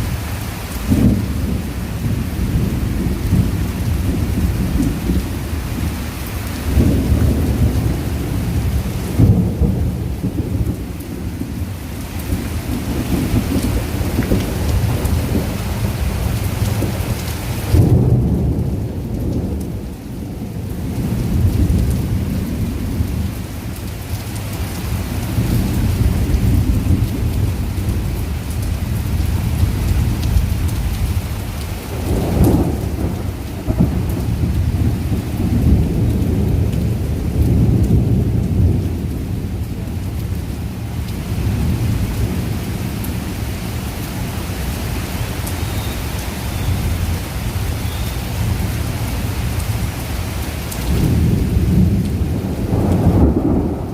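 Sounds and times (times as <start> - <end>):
heavy rain: 0.0 - 53.9
rolling thunder: 0.9 - 6.0, 6.6 - 23.5, 25.1 - 43.7, 50.8 - 53.9.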